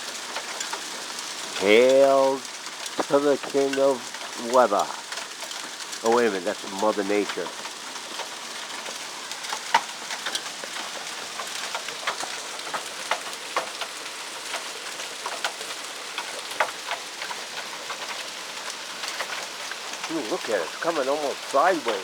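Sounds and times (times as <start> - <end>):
hail and rain falling: 0.0 - 22.0
hailstones ticking on hard surfaces: 0.0 - 22.0.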